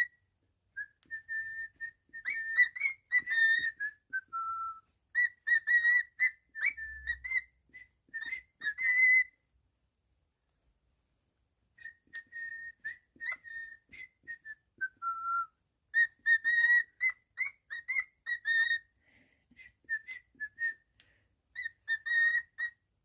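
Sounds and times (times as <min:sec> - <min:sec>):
cockatiel whistling a tune: 0:00.0 - 0:00.2, 0:00.8 - 0:09.4, 0:11.8 - 0:22.9.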